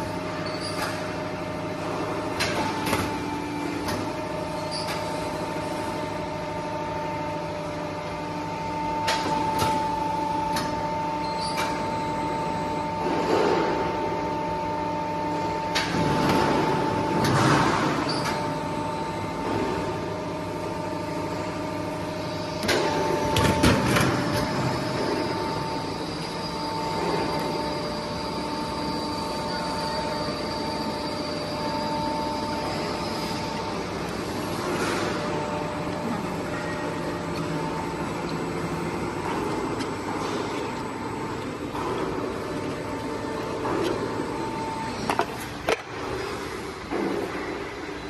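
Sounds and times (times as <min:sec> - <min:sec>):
machine motor whine: 0:00.0 - 0:48.0.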